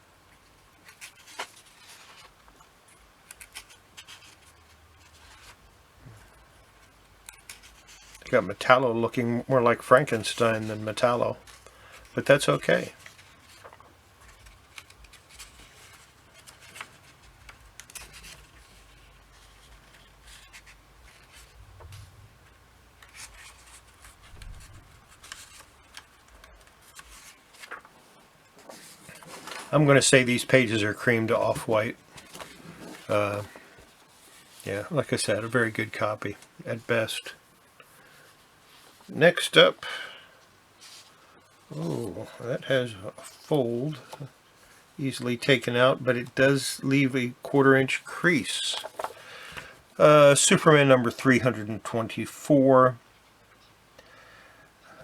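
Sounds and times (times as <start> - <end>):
comic book pages rustling: 0.7 - 39.5, 40.7 - 45.5, 47.2 - 49.8.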